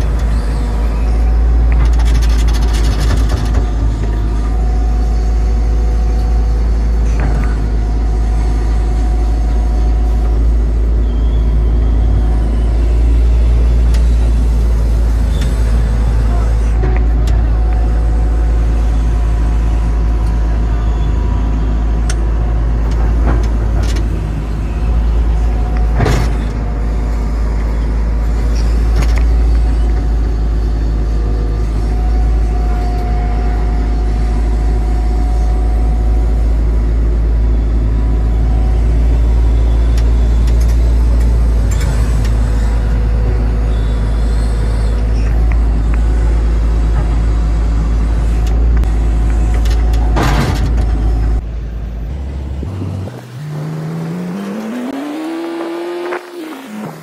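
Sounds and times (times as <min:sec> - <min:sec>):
excavator engine drone with whine: 0:00.0 - 0:57.0.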